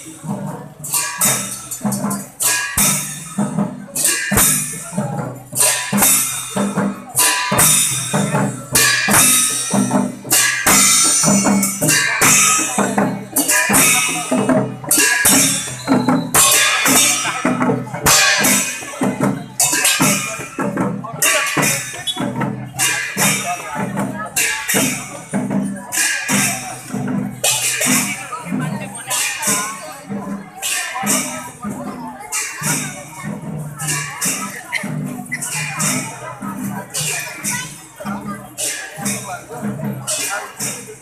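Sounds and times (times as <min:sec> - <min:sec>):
hand-beaten barrel drum: 0:00.0 - 0:41.0
sharp percussion strikes: 0:00.0 - 0:41.0.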